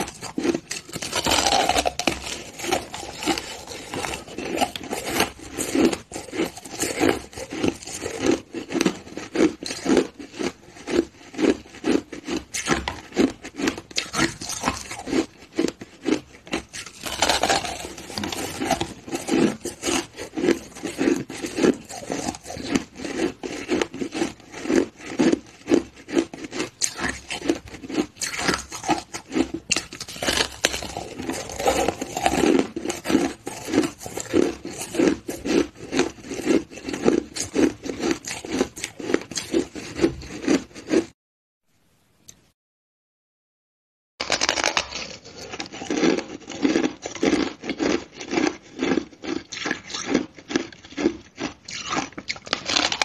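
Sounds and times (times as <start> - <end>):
ice crunching between teeth: 0.0 - 41.2, 44.2 - 53.0.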